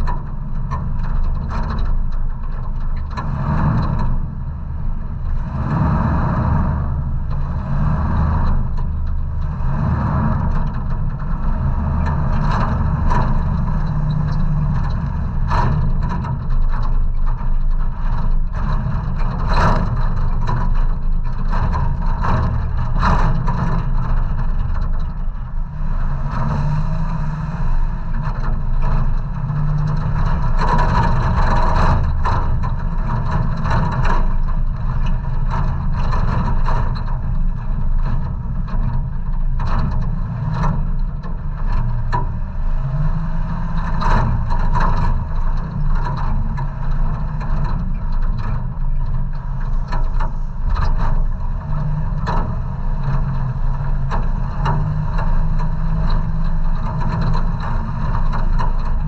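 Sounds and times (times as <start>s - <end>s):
engine running at low revs: 0.0s - 59.0s
truck knocks and rattles: 0.0s - 59.0s.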